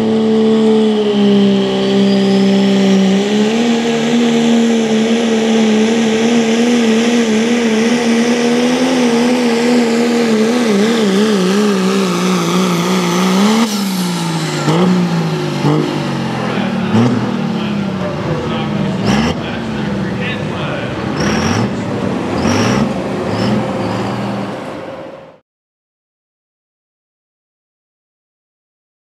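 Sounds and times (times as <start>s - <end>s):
turbo whine: 0.0s - 24.6s
diesel engine running flat out: 0.0s - 25.4s.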